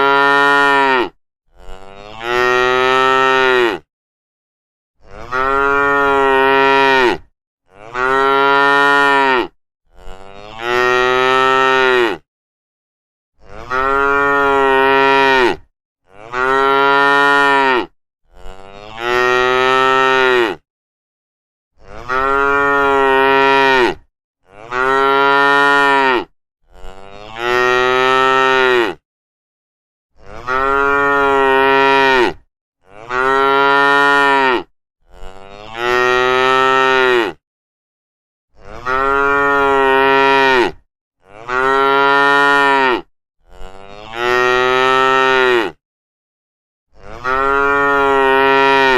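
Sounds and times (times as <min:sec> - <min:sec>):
cows mooing: 0:00.0 - 0:03.9, 0:05.1 - 0:12.2, 0:13.4 - 0:20.6, 0:22.0 - 0:29.0, 0:30.2 - 0:37.4, 0:38.7 - 0:45.8, 0:47.0 - 0:48.9.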